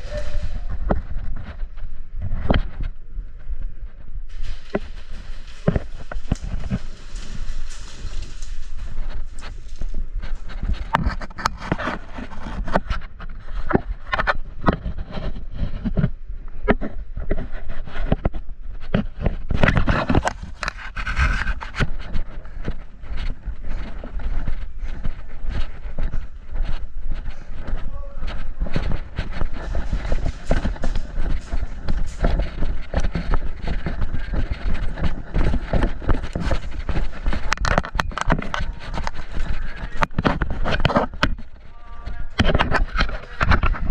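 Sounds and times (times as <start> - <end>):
gear rustling: 0.0 - 13.6, 19.4 - 43.9
footsteps: 0.0 - 16.1, 16.7 - 43.9.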